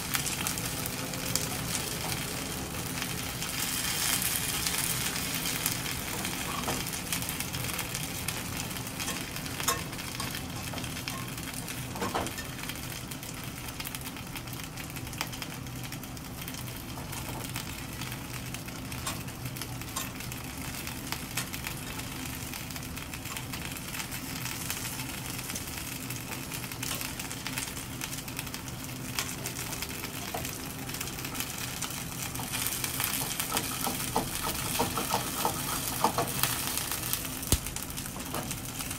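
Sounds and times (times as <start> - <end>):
dumplings sizzling in a pan: 0.0 - 38.9.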